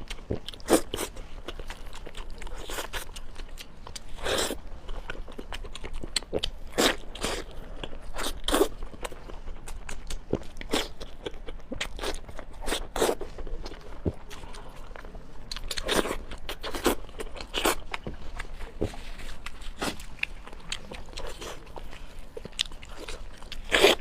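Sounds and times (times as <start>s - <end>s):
crunchy bites and chewing: 0.0s - 24.0s.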